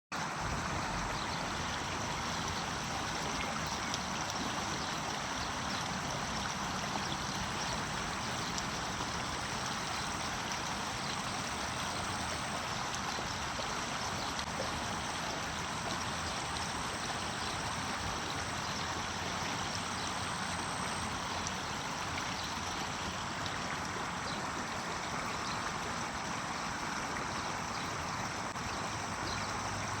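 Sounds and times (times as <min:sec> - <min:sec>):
stream water rushing: 0:00.2 - 0:30.0.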